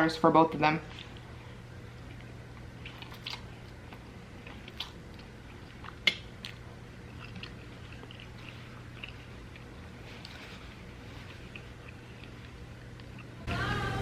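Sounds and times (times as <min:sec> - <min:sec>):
person chewing food: 0:00.9 - 0:13.5.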